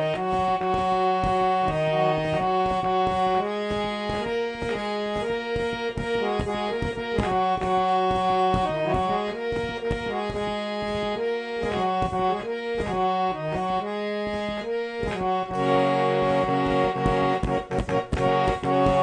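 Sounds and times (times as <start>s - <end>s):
reed keyboard melody: 0.0s - 19.0s.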